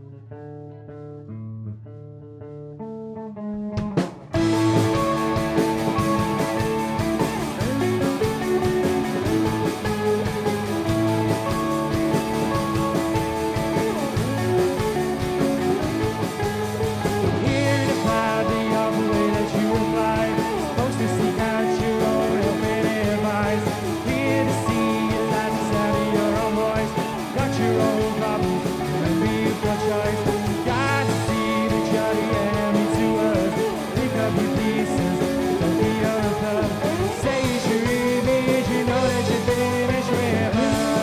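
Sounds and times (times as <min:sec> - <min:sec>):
rock band playing instrumental: 0:03.2 - 0:41.0.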